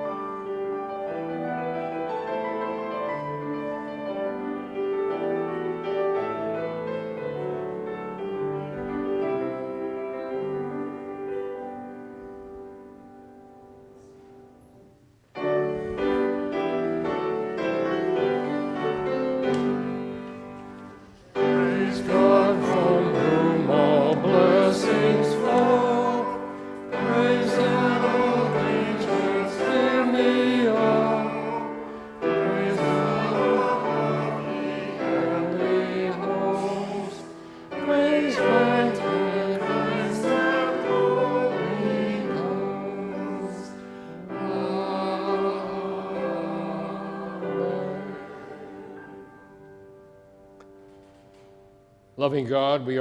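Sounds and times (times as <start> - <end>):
choir singing: 0.0 - 11.7, 15.4 - 50.1
piano accompaniment: 0.0 - 53.0.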